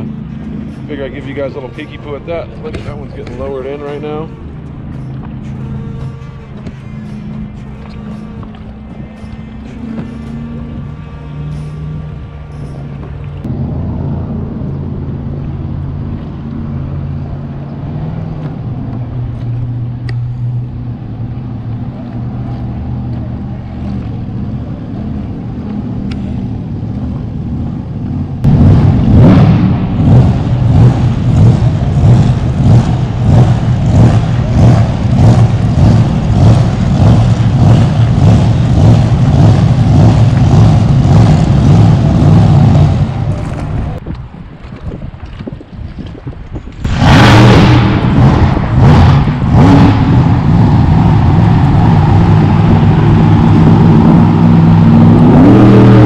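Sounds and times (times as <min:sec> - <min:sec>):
boat engines droning: 0:00.0 - 0:28.5, 0:29.8 - 0:44.7, 0:47.7 - 0:56.0
loud rough pulsing noise: 0:00.0 - 0:56.0.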